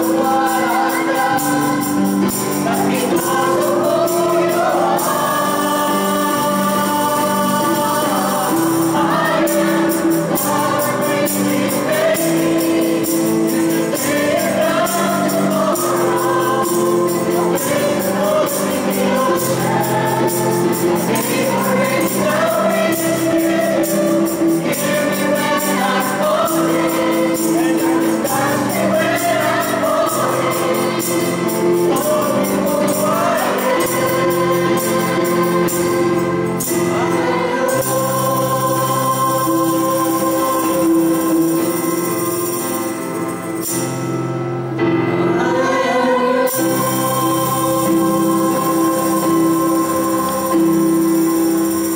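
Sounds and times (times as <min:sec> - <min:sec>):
jingling percussion beat: 0:00.0 - 0:44.2, 0:46.5 - 0:51.9
mixed choir singing: 0:00.0 - 0:44.2, 0:44.8 - 0:51.9
guitar accompaniment: 0:00.0 - 0:51.9.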